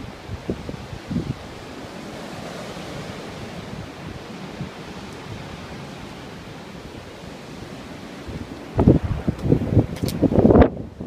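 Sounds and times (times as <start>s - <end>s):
strong wind through trees: 0.0s - 11.0s
wind buffeting microphone: 0.0s - 11.0s.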